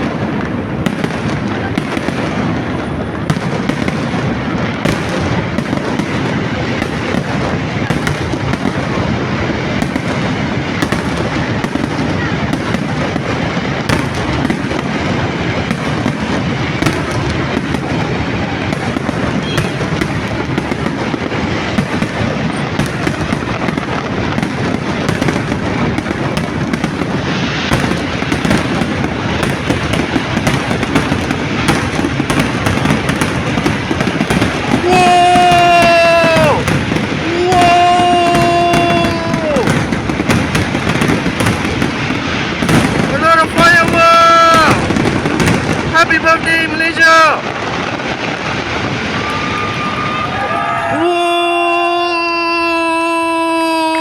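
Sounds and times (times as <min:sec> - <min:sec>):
fireworks cracking and popping: 0:00.0 - 0:54.0.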